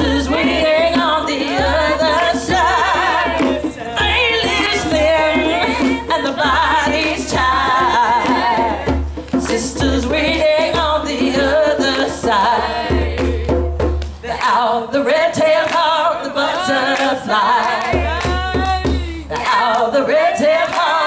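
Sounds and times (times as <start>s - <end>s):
women singing with vibrato: 0.0s - 13.6s, 14.2s - 21.0s
hand drumming on djembe: 0.0s - 14.7s, 17.4s - 19.8s.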